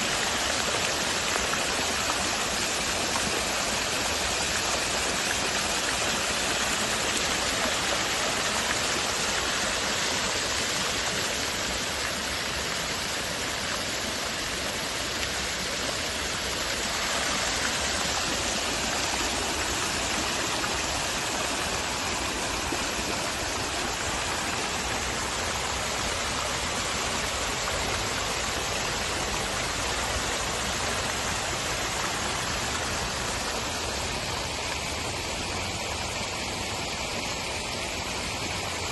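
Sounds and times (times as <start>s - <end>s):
water fountain splashing: 0.0s - 38.9s.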